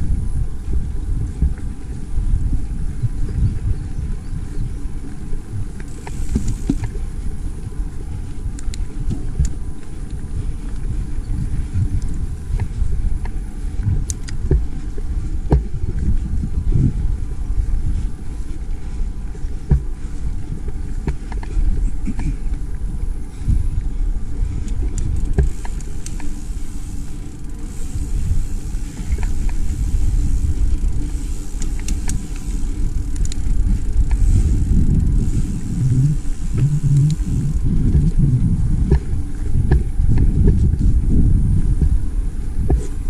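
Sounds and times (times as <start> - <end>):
bike clicks and rattles: 0.0 - 43.0
bike tyre rumble: 0.0 - 43.0
wind buffeting microphone: 0.0 - 43.0.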